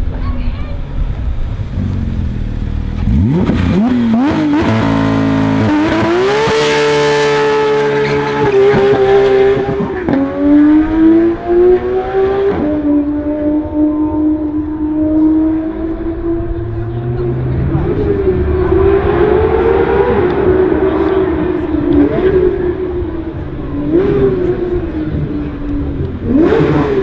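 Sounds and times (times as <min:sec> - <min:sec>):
sports car engine revving: 0:01.2 - 0:27.0.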